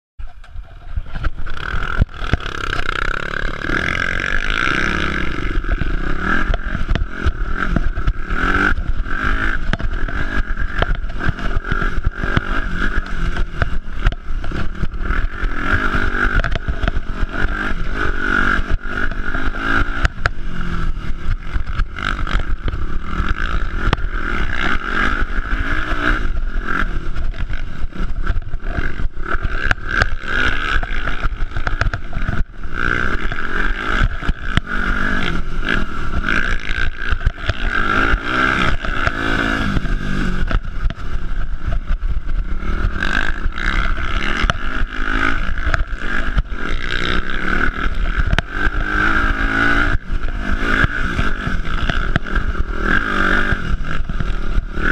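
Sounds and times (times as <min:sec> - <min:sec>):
dirt bike engine: 0:00.2 - 0:54.9.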